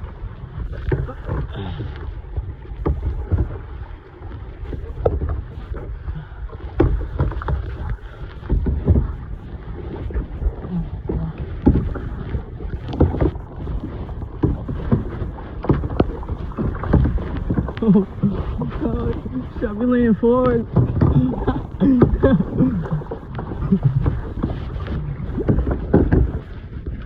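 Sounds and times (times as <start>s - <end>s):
paddle water splashes: 0.0s - 27.0s
wind rumble on microphone: 0.0s - 27.0s.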